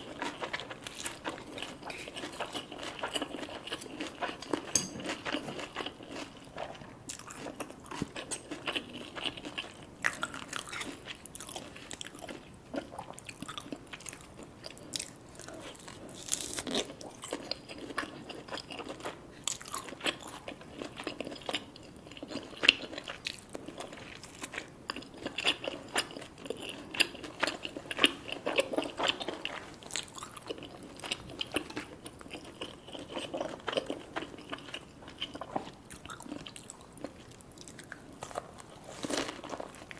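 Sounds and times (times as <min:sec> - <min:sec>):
crunchy chewing of fried food: 0:00.0 - 0:39.9.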